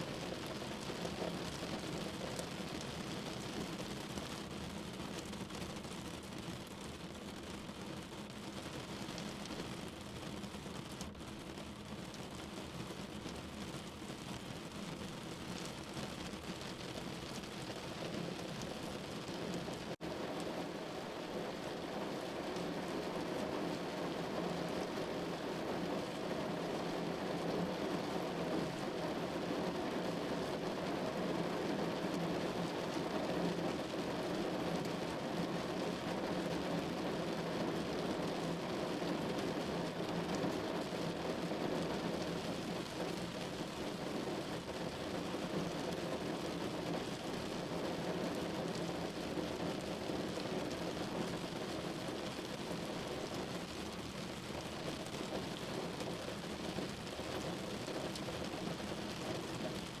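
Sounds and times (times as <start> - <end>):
rain on a window pane: 0.0 - 60.0.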